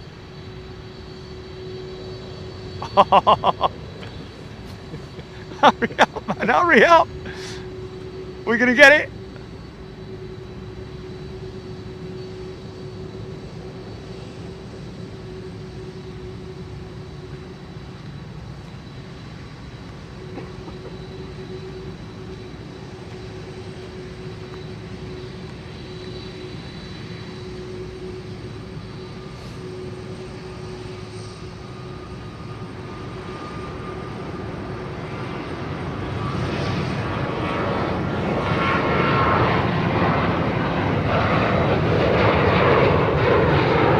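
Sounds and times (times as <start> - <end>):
jet engines on approach: 0.0 - 43.9.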